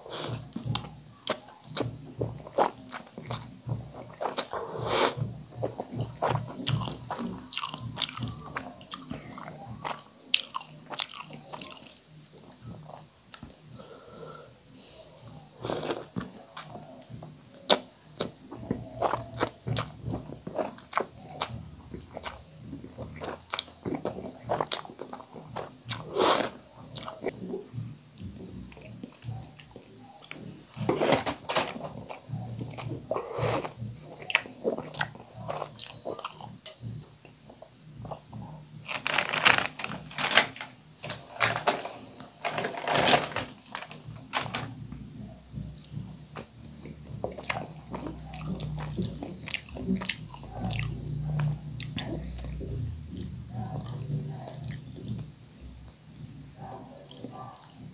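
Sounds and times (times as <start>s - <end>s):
wet chewing: 0.0s - 13.7s, 15.2s - 27.5s, 28.1s - 40.0s, 43.8s - 57.9s.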